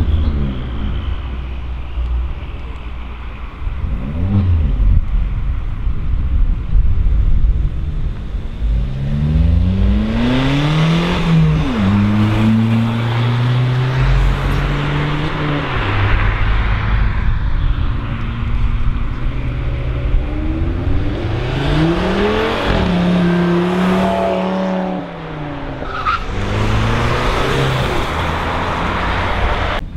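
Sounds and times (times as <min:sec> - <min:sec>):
low engine rumble of cars: 0:00.0 - 0:29.9.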